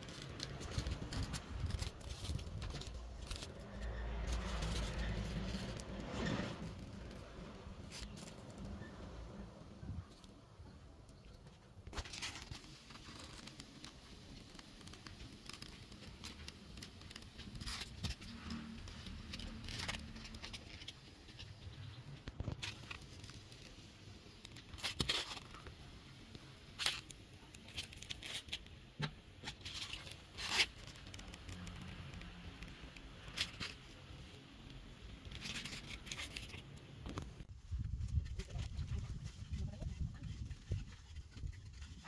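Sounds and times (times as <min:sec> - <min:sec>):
polystyrene foam crackling: 0:00.0 - 0:09.1, 0:11.8 - 0:38.4.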